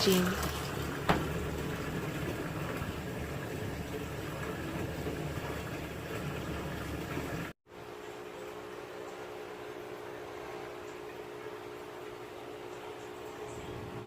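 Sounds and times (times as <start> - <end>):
steady machine hum: 0.0 - 14.0
water filling washing machine: 0.0 - 14.0.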